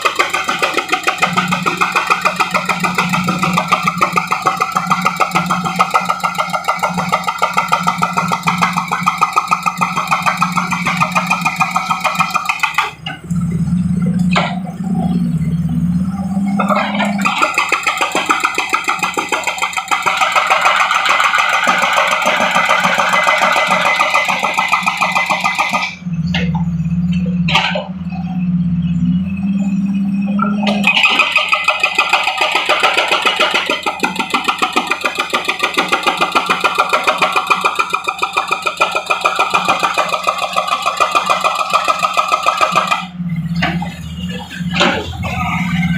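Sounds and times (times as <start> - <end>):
hydraulic breaker hammering: 0.0 - 13.2, 16.5 - 27.9, 30.7 - 45.9
diesel engine running: 0.0 - 45.9
road repair machine pulsing: 0.0 - 45.9.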